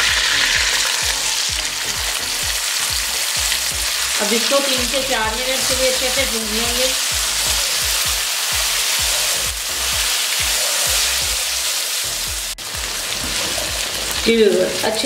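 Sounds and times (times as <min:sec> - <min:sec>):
background music with beat: 0:00.0 - 0:04.2, 0:04.8 - 0:14.4
chickpeas sizzling in oil: 0:00.0 - 0:15.0.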